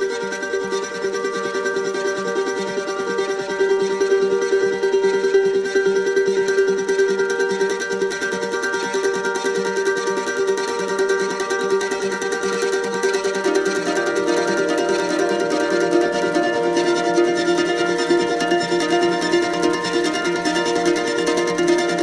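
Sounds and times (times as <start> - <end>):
plucked string instrument music: 0.0 - 22.0.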